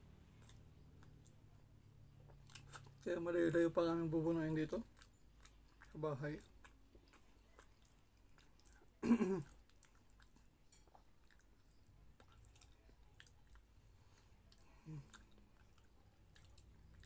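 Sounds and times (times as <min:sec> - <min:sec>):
person chewing food: 0:00.1 - 0:03.6, 0:04.7 - 0:17.0.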